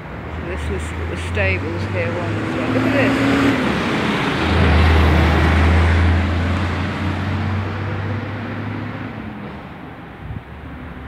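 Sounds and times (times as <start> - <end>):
vehicle passing by: 0.5 - 9.8.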